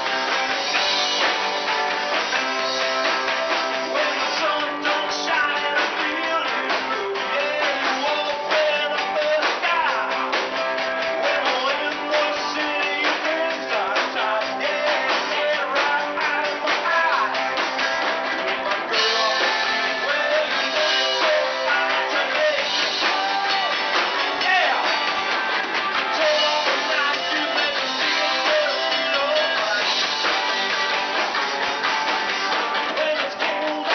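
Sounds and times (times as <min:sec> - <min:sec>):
rock band playing: 0:00.0 - 0:33.9
person singing: 0:02.4 - 0:17.6, 0:18.9 - 0:25.2, 0:25.9 - 0:30.8, 0:32.4 - 0:33.9.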